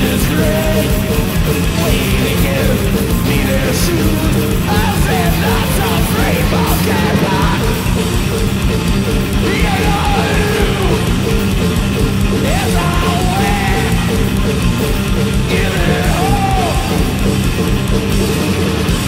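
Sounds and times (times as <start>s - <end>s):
distorted electric guitar: 0.0s - 19.0s
pounding drums: 0.0s - 19.0s
yelled vocals: 0.0s - 19.0s.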